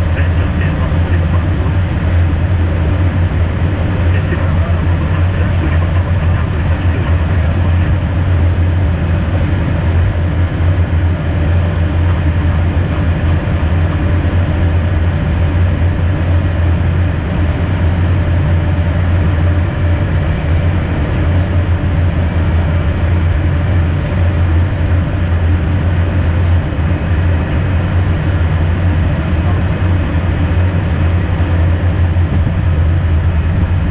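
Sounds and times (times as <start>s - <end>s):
airflow and engine noise: 0.0s - 33.9s
deep steady hum: 0.0s - 33.9s.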